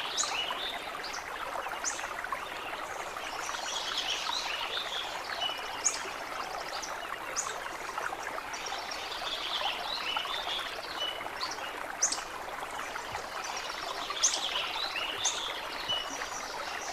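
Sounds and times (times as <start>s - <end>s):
stream water flowing: 0.0s - 16.9s.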